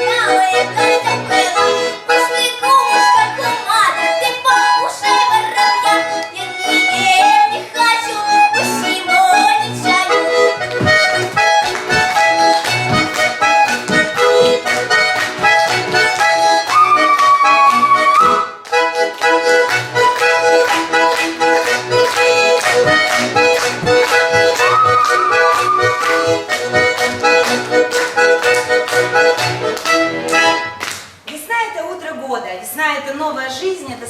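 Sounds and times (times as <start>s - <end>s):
reedy accordion-like melody: 0.0s - 30.8s.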